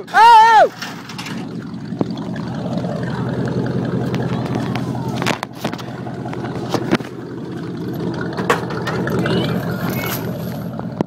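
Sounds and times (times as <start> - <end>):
pickup engine running: 0.0 - 11.0.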